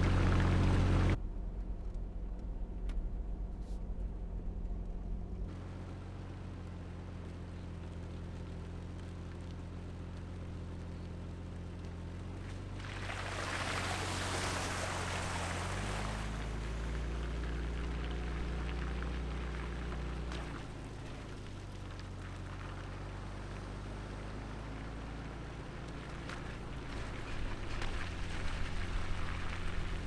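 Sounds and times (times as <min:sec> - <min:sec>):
water splashing from wheels: 0:00.0 - 0:01.2, 0:06.1 - 0:30.0
car engine running: 0:00.0 - 0:30.0.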